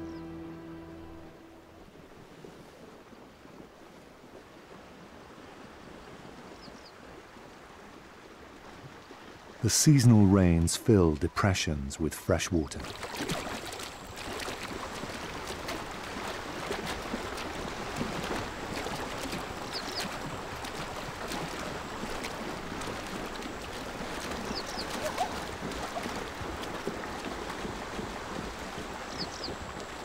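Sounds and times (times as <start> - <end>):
hooves splashing through water: 0.0 - 30.0.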